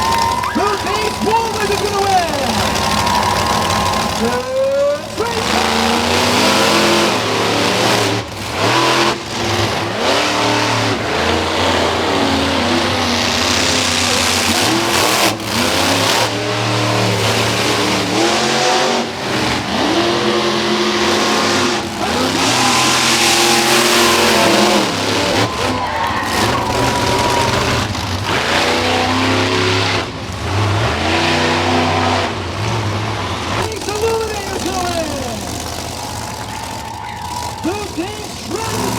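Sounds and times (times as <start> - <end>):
monster truck engines revving: 0.0 - 38.9.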